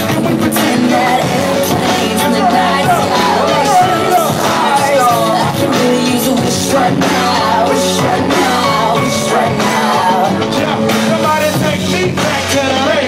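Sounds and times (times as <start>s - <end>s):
hip-hop backing track: 0.0s - 13.0s
person singing: 0.0s - 13.0s.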